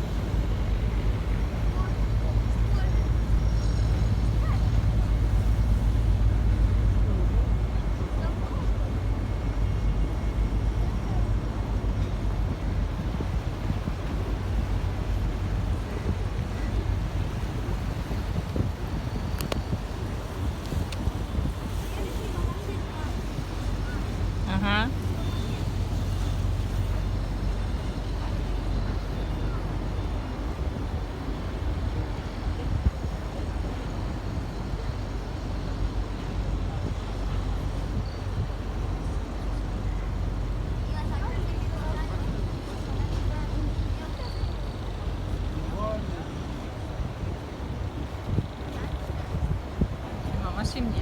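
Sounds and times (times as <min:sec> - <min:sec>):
boat engine rumble: 0:00.0 - 0:51.0
wind buffeting microphone: 0:00.0 - 0:51.0.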